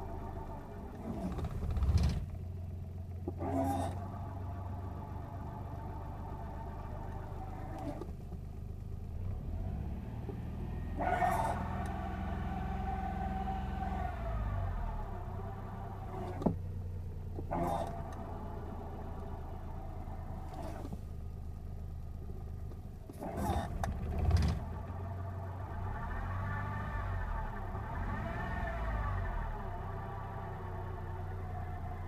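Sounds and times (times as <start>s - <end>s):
car engine idling: 0.0s - 32.0s
clutch whine: 0.0s - 32.0s.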